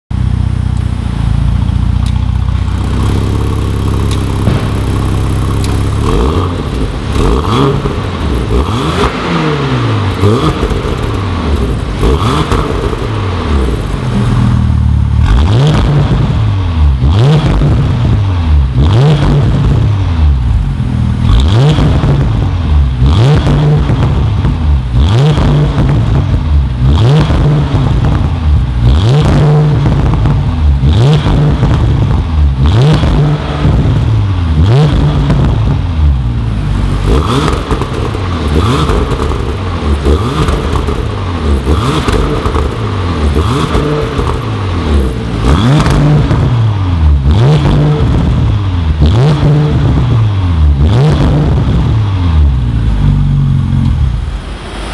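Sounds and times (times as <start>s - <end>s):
car engine revving: 0.1s - 54.9s.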